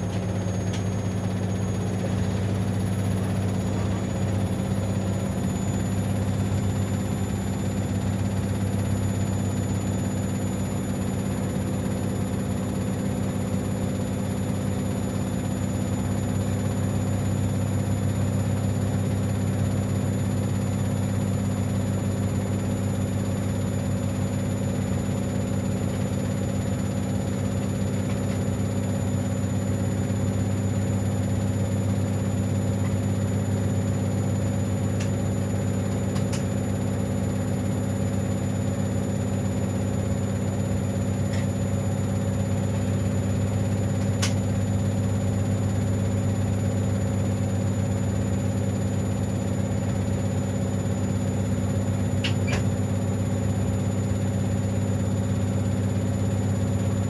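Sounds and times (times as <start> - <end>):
washing machine humming: 0.0 - 57.0.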